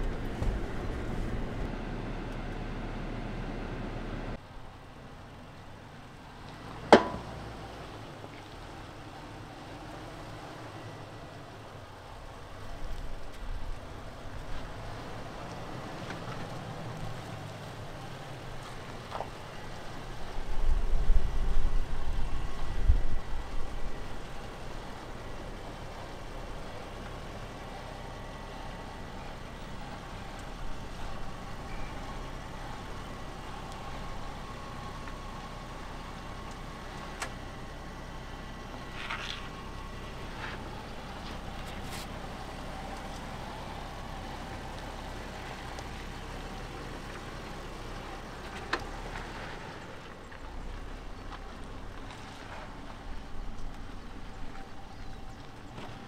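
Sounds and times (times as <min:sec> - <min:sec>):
suv engine crawling: 0:00.0 - 0:56.0.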